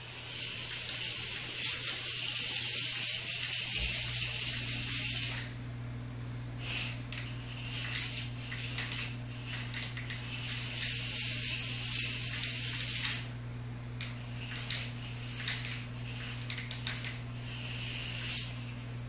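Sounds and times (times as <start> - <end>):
toy car motor whirring: 0.0 - 5.6, 6.6 - 13.3, 14.0 - 19.0
steady low hum: 0.0 - 19.0.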